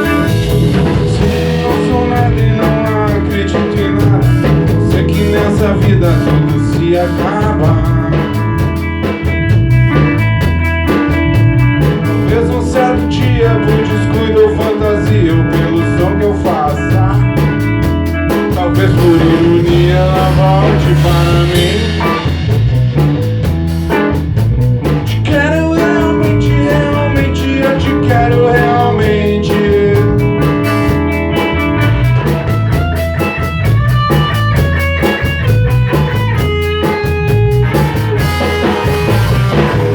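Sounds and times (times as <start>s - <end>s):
drum kit: 0.0s - 39.9s
guitar with bending notes: 0.0s - 39.9s.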